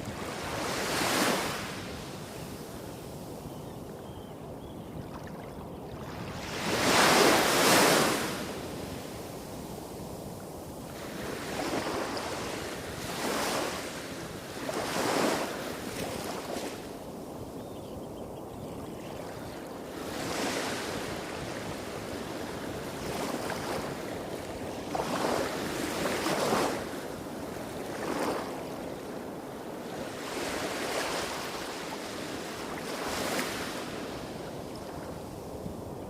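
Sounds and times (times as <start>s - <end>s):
small waves washing up beach: 0.0s - 3.3s, 5.1s - 17.4s, 19.1s - 36.0s.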